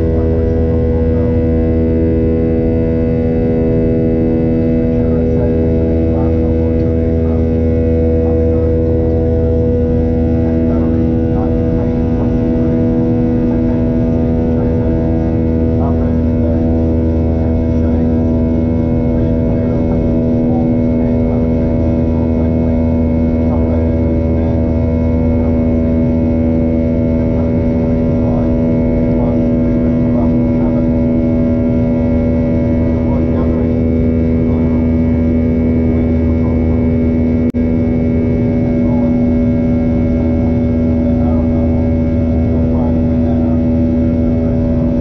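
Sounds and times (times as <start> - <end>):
jet engines droning in cabin: 0.0 - 45.0.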